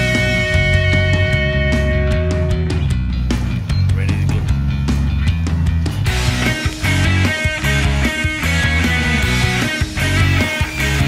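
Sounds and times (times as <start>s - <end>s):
rock instrumental music: 0.0s - 11.0s.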